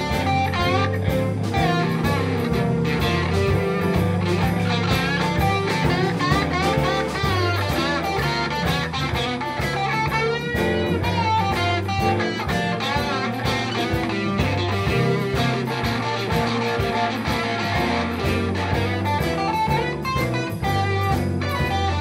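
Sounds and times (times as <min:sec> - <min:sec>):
bass guitar: 0:00.0 - 0:22.0
drum kit: 0:00.0 - 0:22.0
electric guitar lead: 0:00.0 - 0:22.0
keyboard: 0:00.0 - 0:22.0.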